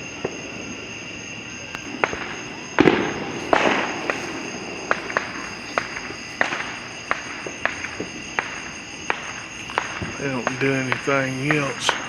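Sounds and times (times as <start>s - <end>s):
fireworks pops and bangs: 0.0s - 0.7s, 1.6s - 12.0s
loud firework blast: 1.8s - 12.0s.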